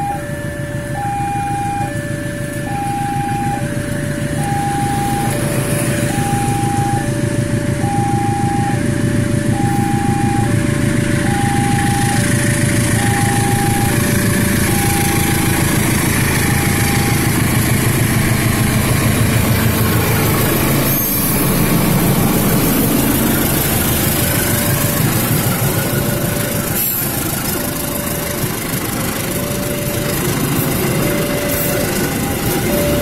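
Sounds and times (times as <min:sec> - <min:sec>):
crossing alarm alternating tones: 0:00.0 - 0:33.0
locomotive engine rumble: 0:00.0 - 0:33.0.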